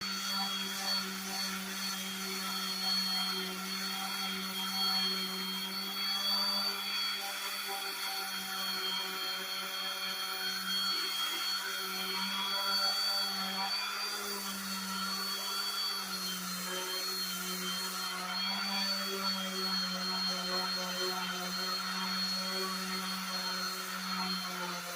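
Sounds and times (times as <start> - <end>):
electric sander on wood: 0.0 - 24.9.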